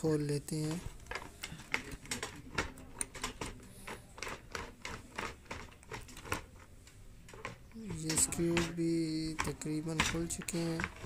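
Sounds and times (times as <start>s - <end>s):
screwdriver clicking and scraping: 0.5s - 6.6s, 7.3s - 11.0s.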